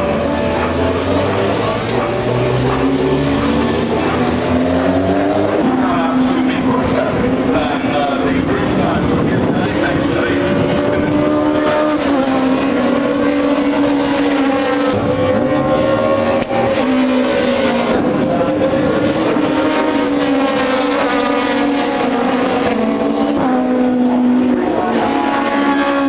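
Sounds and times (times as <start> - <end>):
racing cars passing at high revs: 0.0 - 26.0.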